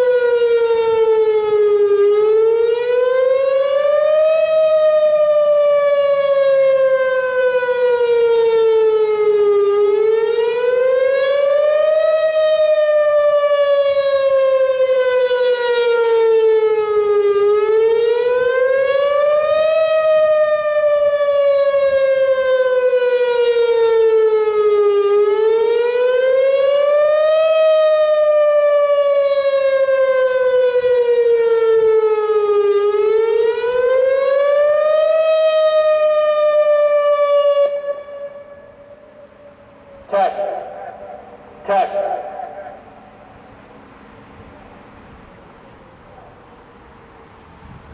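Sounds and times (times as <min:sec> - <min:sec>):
warning siren wailing: 0:00.0 - 0:47.9.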